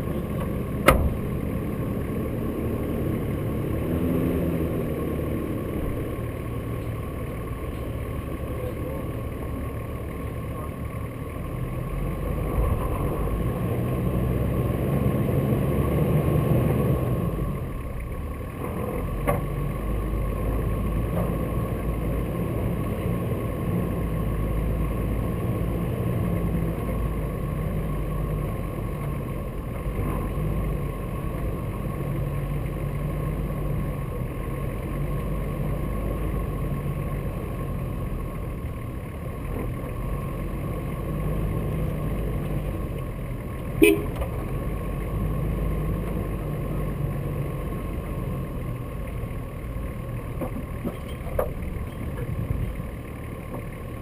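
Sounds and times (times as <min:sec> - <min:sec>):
vehicle engine at low revs: 0:00.0 - 0:54.0.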